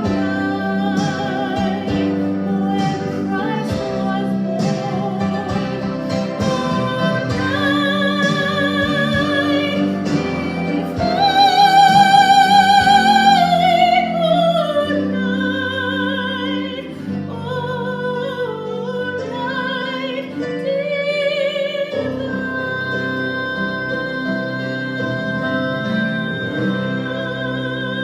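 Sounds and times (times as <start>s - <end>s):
classical solo singer: 0.0s - 28.0s
instrumental accompaniment: 0.0s - 28.0s.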